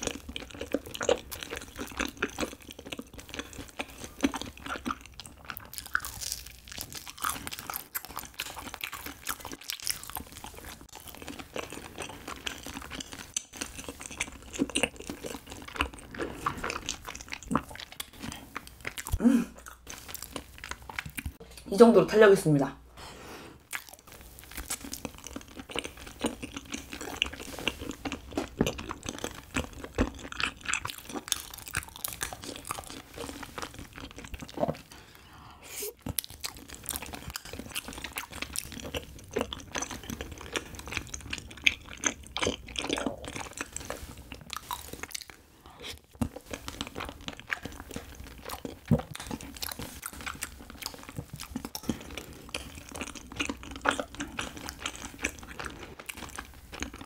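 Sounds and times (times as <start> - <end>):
chewing rice cake: 0.0 - 21.4, 23.7 - 35.1, 35.8 - 57.0.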